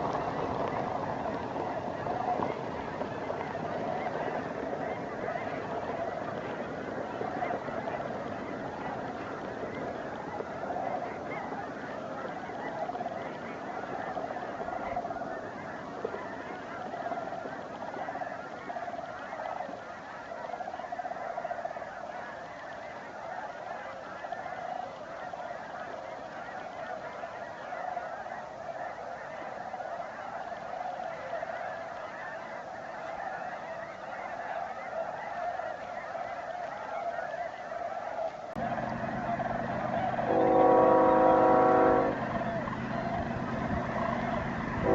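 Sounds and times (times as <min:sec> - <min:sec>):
geese and cranes calling: 0:00.0 - 0:44.9.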